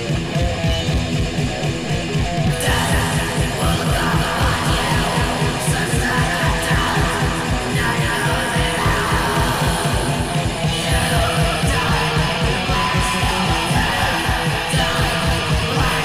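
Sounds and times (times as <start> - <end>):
distorted electric guitar: 0.0 - 16.0
fast kick drum: 0.0 - 16.0
shouted vocals: 2.5 - 16.0.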